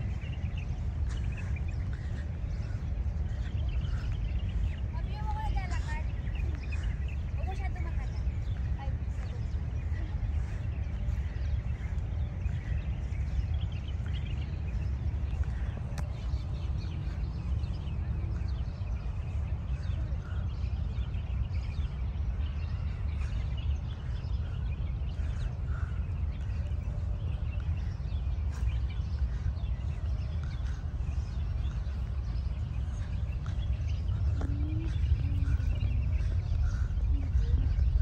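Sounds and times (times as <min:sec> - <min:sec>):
birds chirping: 0:00.0 - 0:38.0
steady low rumble: 0:00.0 - 0:38.0.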